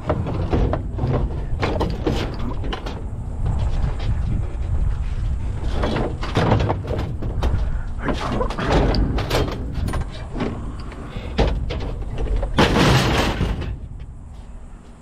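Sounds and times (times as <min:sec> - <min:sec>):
scrap metal scraping and clanking: 0:00.0 - 0:14.6.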